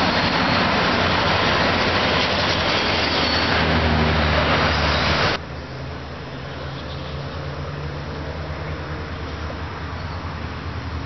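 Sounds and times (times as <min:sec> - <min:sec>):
locomotive engines humming: 0:00.0 - 0:11.0
train wheel and rail noise: 0:00.0 - 0:11.0.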